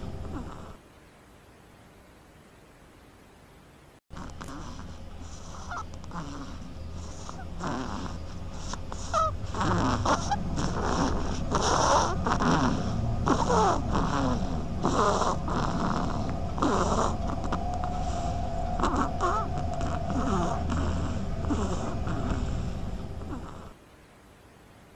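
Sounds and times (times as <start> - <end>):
animal snoring: 0.0 - 0.8, 4.1 - 23.8
steady low hum: 0.0 - 24.9.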